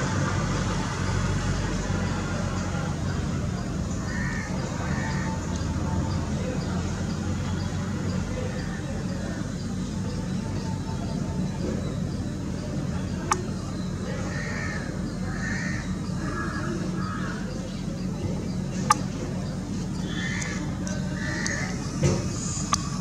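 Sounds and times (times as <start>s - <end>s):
birds calling: 1.5s - 23.0s.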